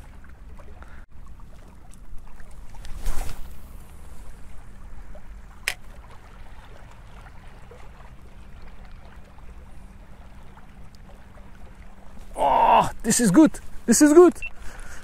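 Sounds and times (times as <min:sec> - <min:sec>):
water lapping: 0:00.0 - 0:15.0.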